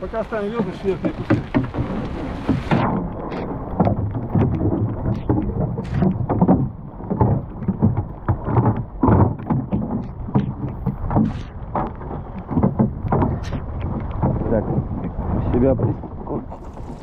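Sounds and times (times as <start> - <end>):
oars knocking on a dinghy: 0.0 - 17.0
wind rumbling on microphone: 0.0 - 17.0.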